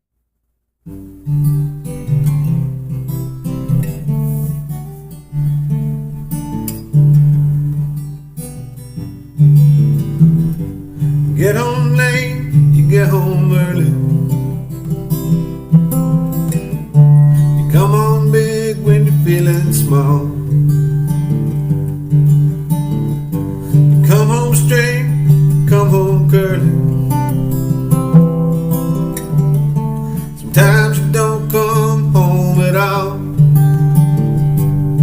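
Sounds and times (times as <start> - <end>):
acoustic guitar chords: 0.8 - 35.0
sliding guitar melody line: 0.9 - 35.0.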